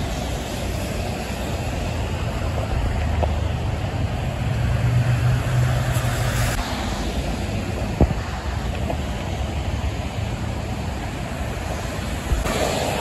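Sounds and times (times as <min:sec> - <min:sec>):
truck engine drone: 0:00.0 - 0:13.0
tyres hissing on wet road: 0:00.0 - 0:13.0.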